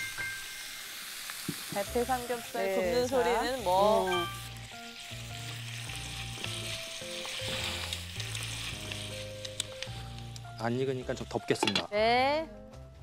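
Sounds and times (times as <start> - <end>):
meat sizzling in oil: 0.0 - 11.9
soft background music: 0.0 - 13.0.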